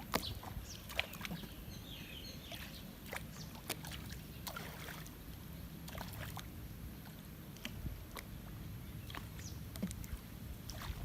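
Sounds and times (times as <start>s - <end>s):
paddle strokes sloshing: 0.0s - 11.0s.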